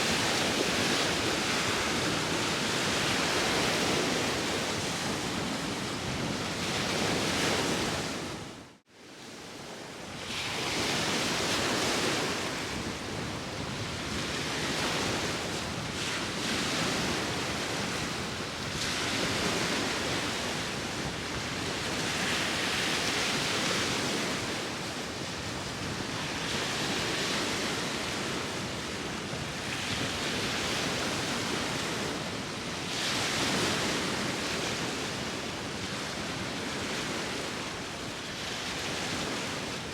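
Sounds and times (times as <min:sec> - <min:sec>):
sea waves breaking on shore: 0:00.0 - 0:39.9
wind: 0:00.0 - 0:39.9.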